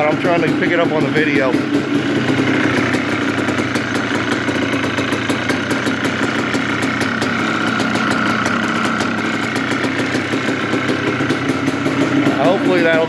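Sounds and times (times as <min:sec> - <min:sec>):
two-stroke engine idling: 0:00.0 - 0:13.0.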